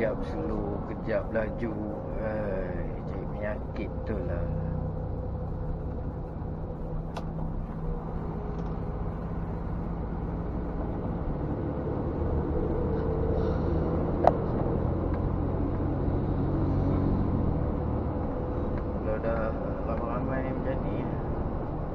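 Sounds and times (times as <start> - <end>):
truck diesel engine drone: 0.0 - 21.9.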